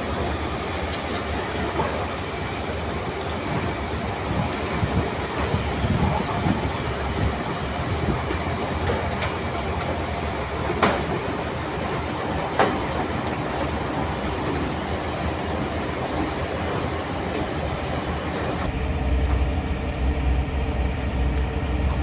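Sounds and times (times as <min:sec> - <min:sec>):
diesel engine rumble: 0:00.0 - 0:14.4, 0:18.4 - 0:22.0.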